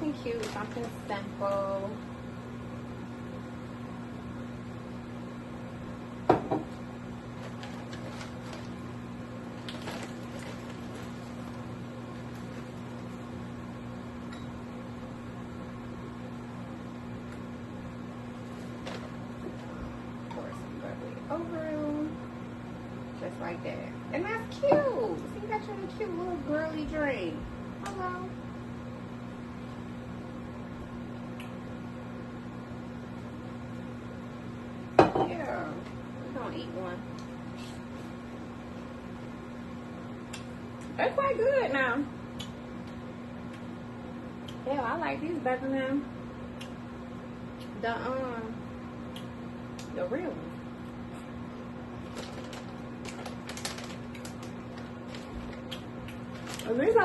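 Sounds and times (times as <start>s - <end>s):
microwave oven humming: 0.0s - 57.0s.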